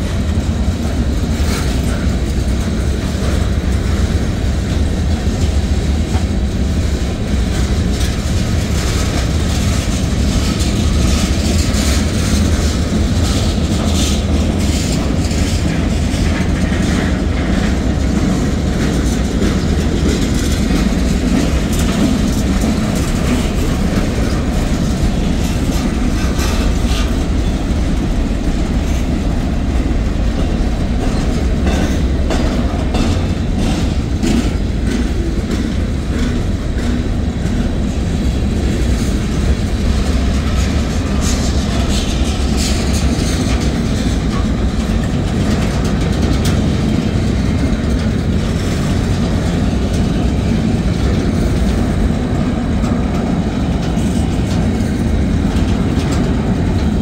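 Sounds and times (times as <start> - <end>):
train wheels rumbling on rail: 0.0 - 57.0
wheels clacking over rail joints: 0.0 - 57.0.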